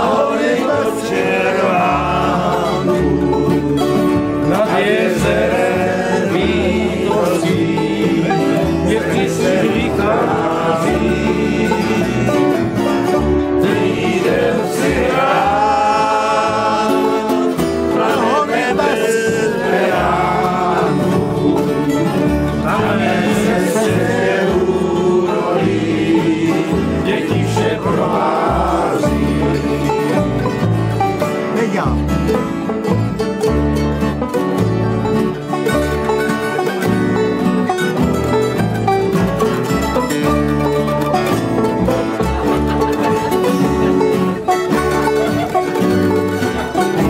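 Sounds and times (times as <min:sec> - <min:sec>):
acoustic guitars strumming: 0:00.0 - 0:47.0
banjo playing: 0:00.0 - 0:47.0
mandolin playing: 0:00.0 - 0:47.0.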